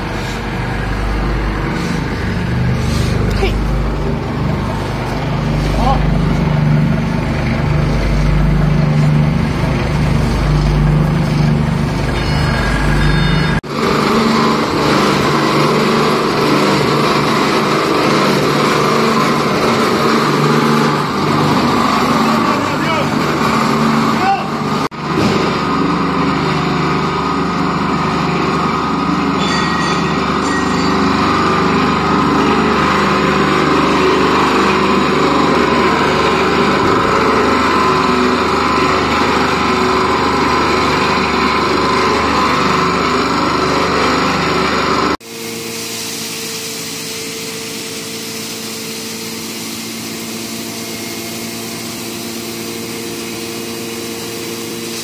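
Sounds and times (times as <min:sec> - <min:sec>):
grinder humming: 0:00.0 - 0:45.8
pellet mill machinery running: 0:00.0 - 0:55.0.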